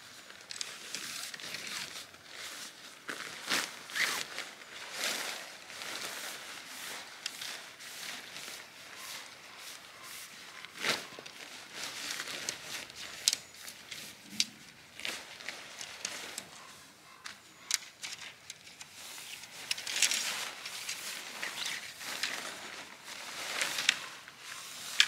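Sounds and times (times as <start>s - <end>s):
rustling: 0.0s - 25.0s.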